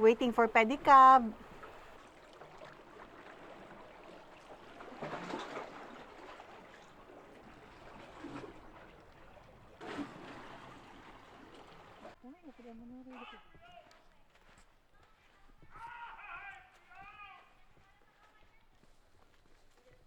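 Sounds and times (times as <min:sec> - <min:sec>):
lake waves lapping at shore: 0:00.0 - 0:17.6.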